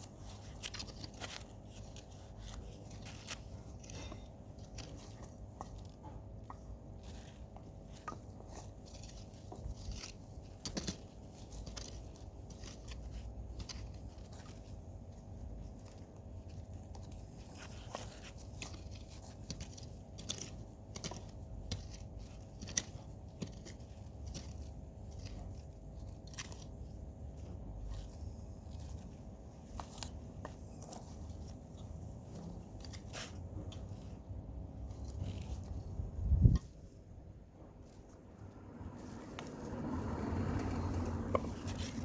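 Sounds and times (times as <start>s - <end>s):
crunches and scrapes of digging soil: 0.0s - 42.0s.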